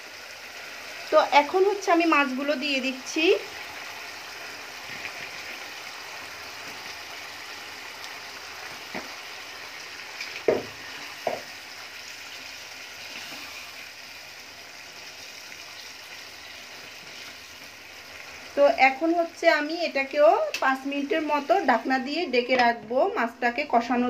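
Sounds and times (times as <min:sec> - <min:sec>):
masala sizzling in a wok: 0:00.0 - 0:24.0.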